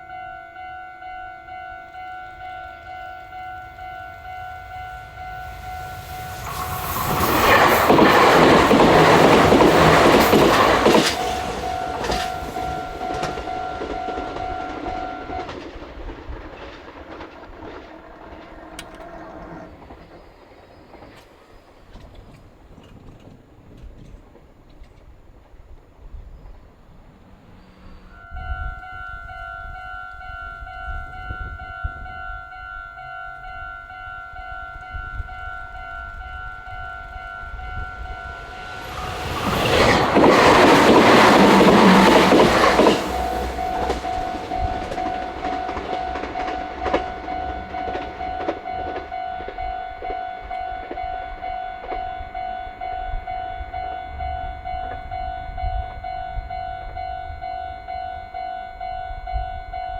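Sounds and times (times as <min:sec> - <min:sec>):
level-crossing warning bell ringing: 0:00.0 - 0:20.8, 0:27.2 - 0:59.9
electric train rushing past: 0:00.0 - 0:59.9.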